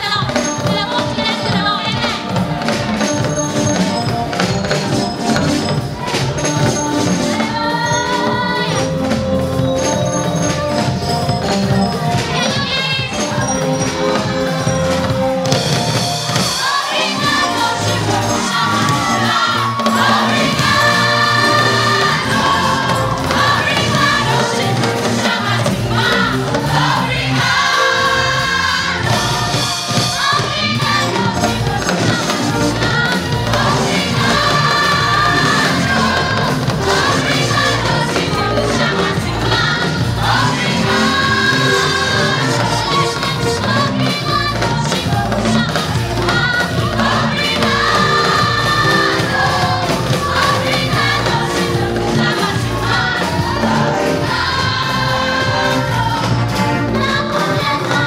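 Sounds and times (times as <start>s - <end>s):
choir singing: 0.0s - 58.0s
drum kit: 0.0s - 58.0s
keyboard: 0.0s - 58.0s.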